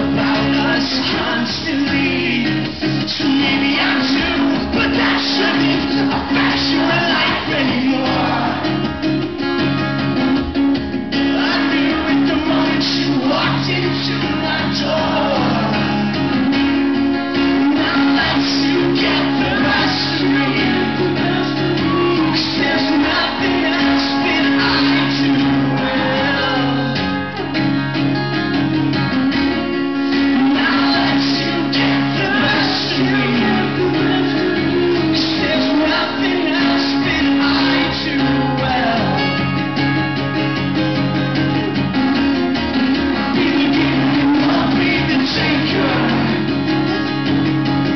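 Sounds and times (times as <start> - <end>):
man singing: 0.0 - 9.1, 11.1 - 27.6, 29.9 - 39.6, 42.9 - 47.1
acoustic guitars strumming: 0.0 - 47.9.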